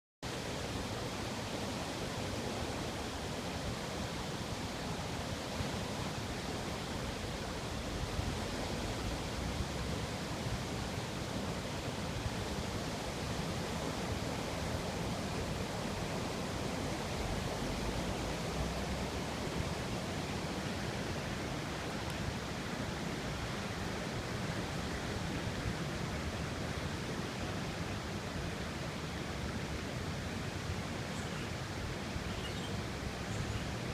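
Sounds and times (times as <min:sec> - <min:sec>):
hiss of running water: 0:00.3 - 0:33.9.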